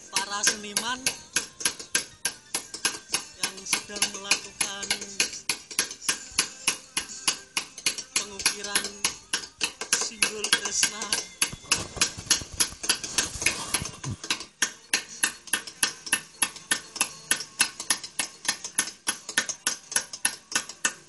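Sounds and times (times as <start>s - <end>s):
hammer tapping chisel into stone: 0.1s - 21.0s.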